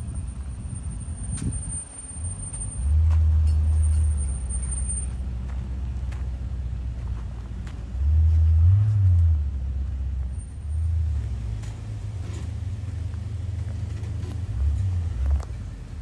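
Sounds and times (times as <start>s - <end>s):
car engine rumbling at low revs: 0.0s - 16.0s.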